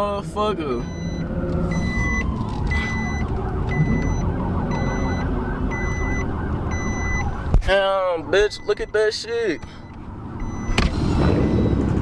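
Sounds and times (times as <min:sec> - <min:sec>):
vehicle engines rumbling: 0:00.0 - 0:12.0
electronic warning beep: 0:00.8 - 0:07.4, 0:08.4 - 0:11.9.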